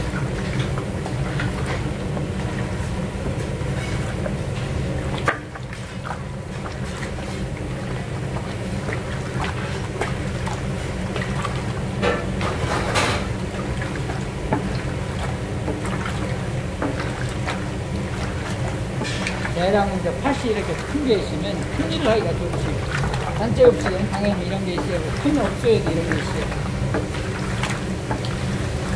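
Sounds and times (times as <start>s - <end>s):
low kitchen equipment rumble: 0.0s - 28.9s.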